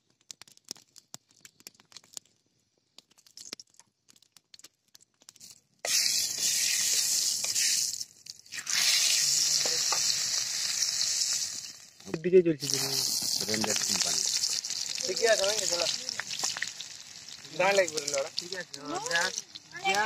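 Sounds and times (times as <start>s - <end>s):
chillies crackling in hot oil: 0.0s - 20.0s
loud steady sizzle: 0.0s - 20.0s.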